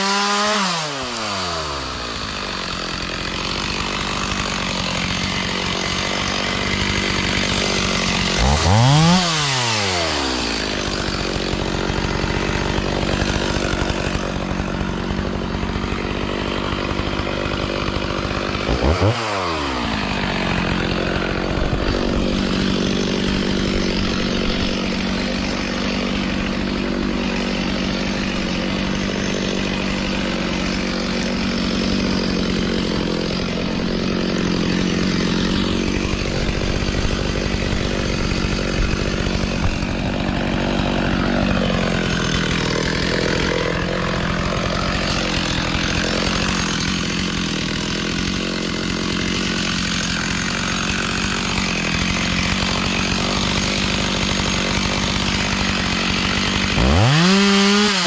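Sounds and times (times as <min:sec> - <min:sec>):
chainsaw engine idling and revving: 0:00.0 - 0:58.0.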